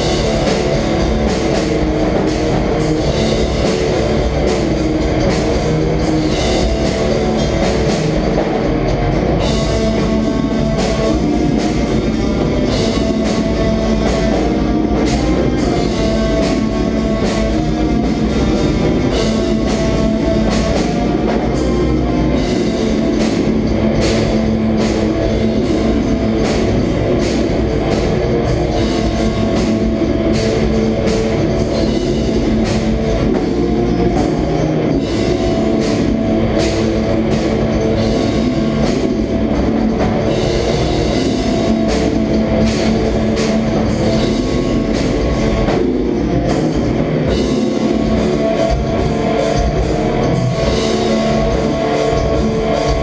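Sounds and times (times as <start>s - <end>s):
bass guitar: 0.0s - 53.0s
distorted electric guitars: 0.0s - 53.0s
drum kit: 0.0s - 53.0s.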